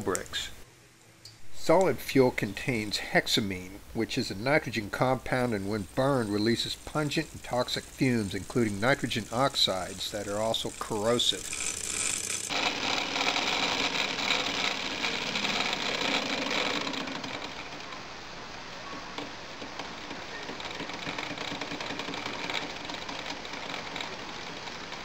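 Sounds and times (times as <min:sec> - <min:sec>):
model steam engine clattering and hissing: 0:04.0 - 0:25.0.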